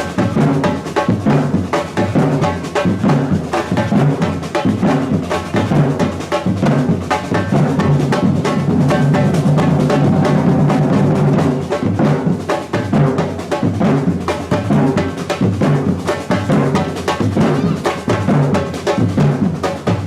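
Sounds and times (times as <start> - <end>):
samba percussion ensemble: 0.0 - 20.0.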